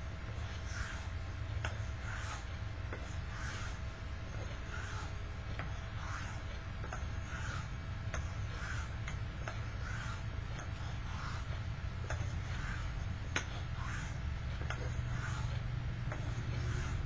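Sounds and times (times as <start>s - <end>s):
low hum: 0.0s - 17.0s
razor scraping on a wet hone: 0.3s - 17.0s.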